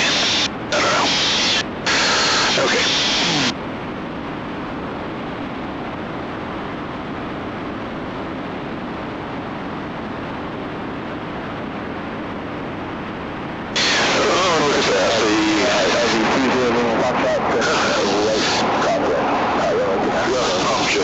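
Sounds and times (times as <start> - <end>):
airplane cabin engine drone: 0.0 - 21.0.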